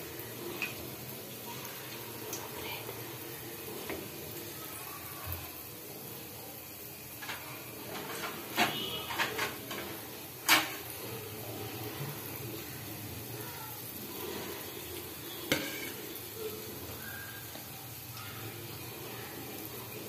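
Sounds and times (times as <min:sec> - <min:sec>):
dumplings sizzling in oil: 0:00.0 - 0:20.0.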